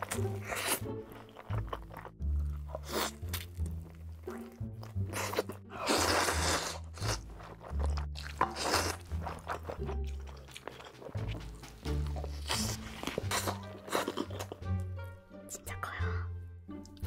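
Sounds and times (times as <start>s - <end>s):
person biting and chewing food: 0.0s - 14.7s.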